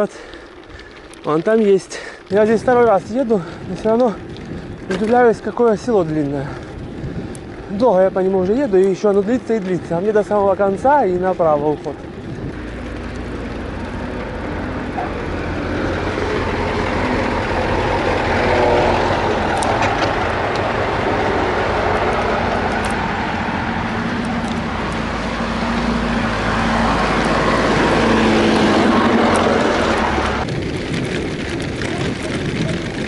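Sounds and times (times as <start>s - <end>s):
bike rattling over dirt road: 0.0s - 33.0s
truck engine running: 0.4s - 33.0s.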